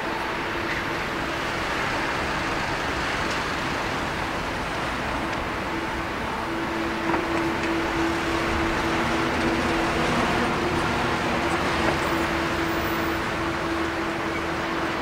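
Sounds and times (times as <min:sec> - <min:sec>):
jet engine roar at takeoff: 0:00.0 - 0:15.0.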